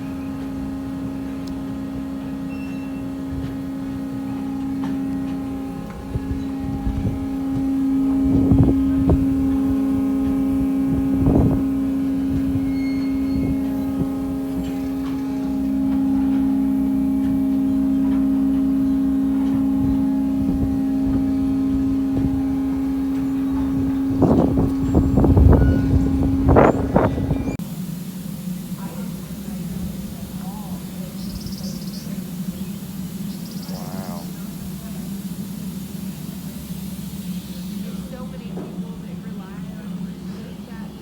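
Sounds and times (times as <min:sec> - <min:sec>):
sawmill machinery motor hum: 0:00.0 - 0:41.0.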